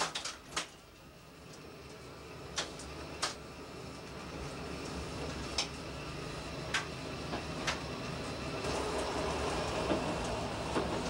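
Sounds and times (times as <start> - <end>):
diesel railcar running rumble: 0.0 - 11.0.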